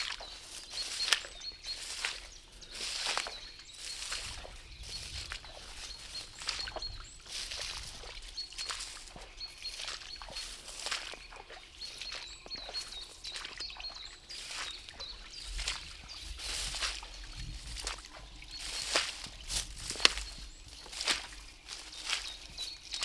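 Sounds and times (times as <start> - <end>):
footsteps on wet forest floor: 0.0 - 23.0
small birds chirping: 0.0 - 23.0.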